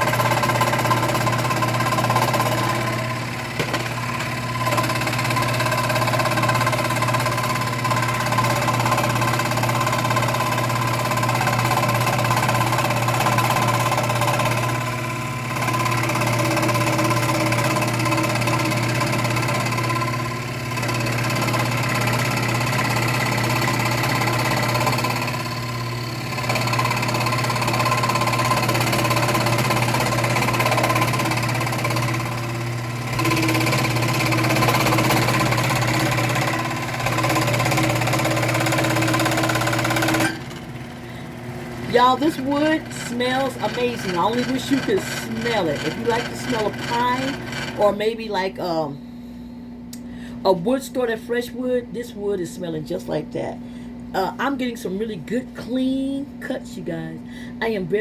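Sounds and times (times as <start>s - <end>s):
scroll saw cutting wood: 0.0s - 48.8s.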